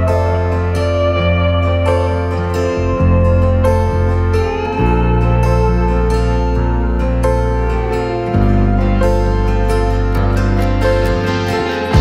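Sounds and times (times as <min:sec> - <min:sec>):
slow calm instrumental music: 0:00.0 - 0:12.0.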